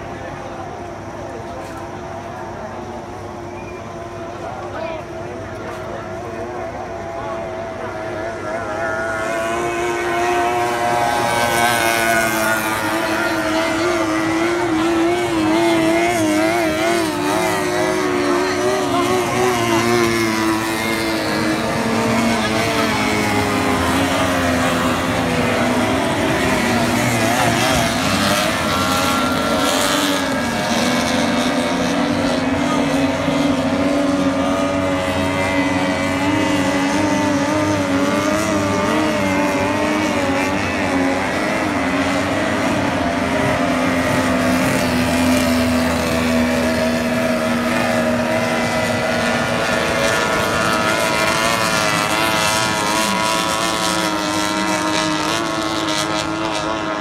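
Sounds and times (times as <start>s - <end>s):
outboard race boat engines: 0.0s - 57.0s.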